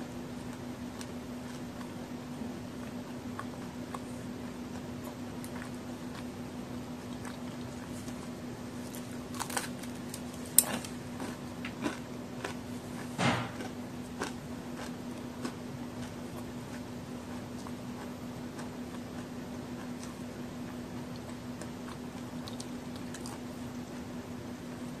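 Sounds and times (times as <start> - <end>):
crisp chewing crunches: 0.4 - 25.0.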